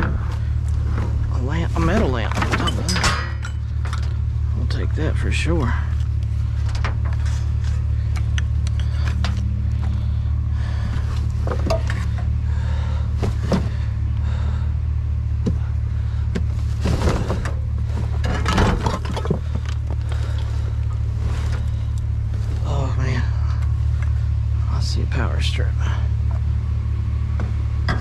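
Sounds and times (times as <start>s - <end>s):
junk knocking and scraping: 0.0s - 14.6s, 15.3s - 24.3s, 27.2s - 28.0s
engine idling: 0.0s - 28.0s.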